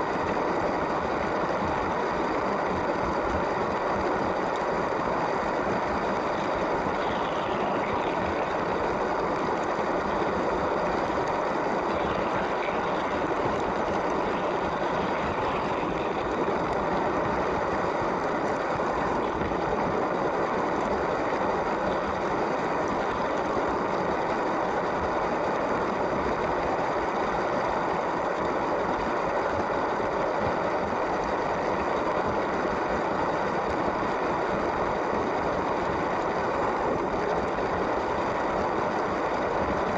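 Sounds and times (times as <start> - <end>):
wheels running on plastic track: 0.0 - 39.9.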